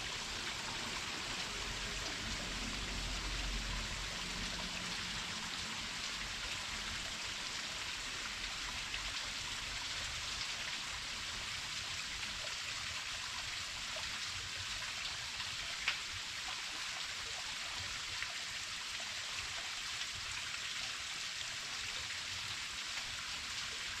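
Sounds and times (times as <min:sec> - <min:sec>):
small waterfall splashing: 0:00.0 - 0:24.0.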